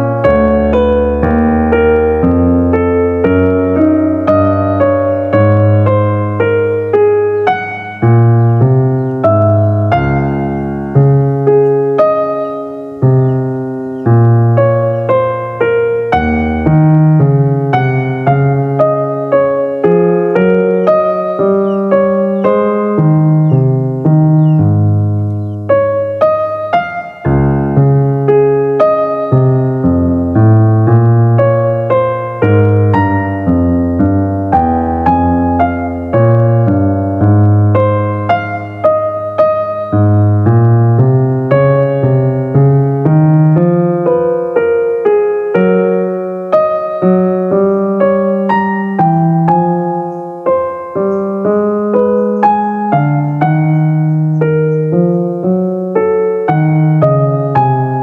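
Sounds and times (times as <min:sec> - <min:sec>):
piano melody: 0:00.0 - 0:58.0.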